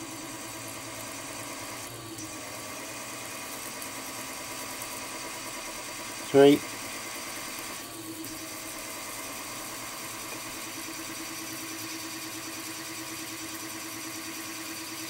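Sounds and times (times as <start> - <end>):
milling machine hum: 0.0 - 15.0.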